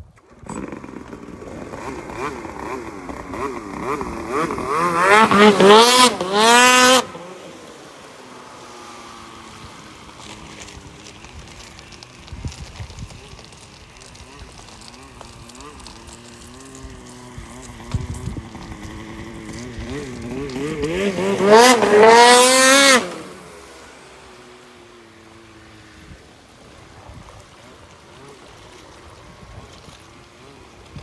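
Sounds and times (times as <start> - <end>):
snowmobile engine revving: 0.2 - 31.0.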